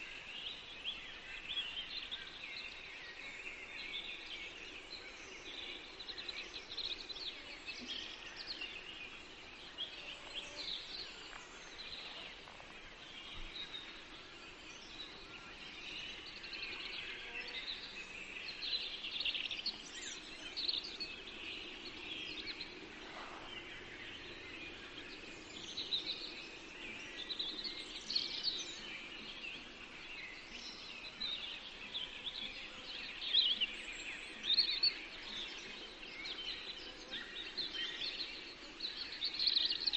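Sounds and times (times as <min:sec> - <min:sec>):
forest birds chirping and trilling: 0:00.0 - 0:39.9.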